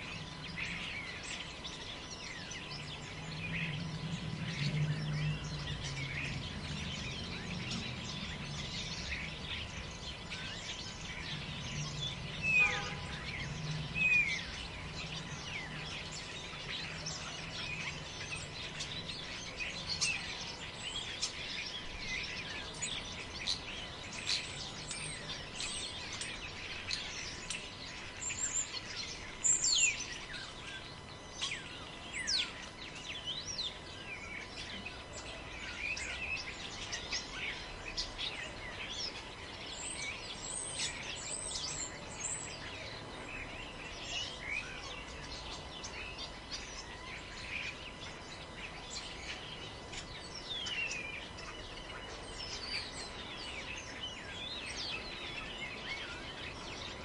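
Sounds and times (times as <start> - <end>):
forest birds chirping: 0.0 - 57.0
low steady hum: 0.0 - 57.0.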